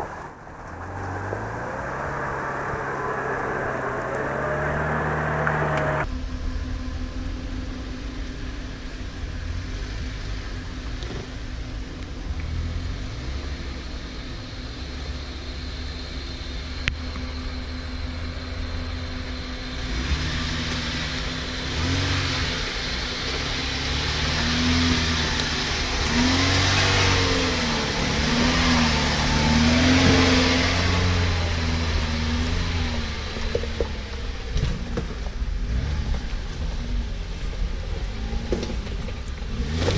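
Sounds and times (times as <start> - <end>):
engine running and revving: 0.0 - 39.9.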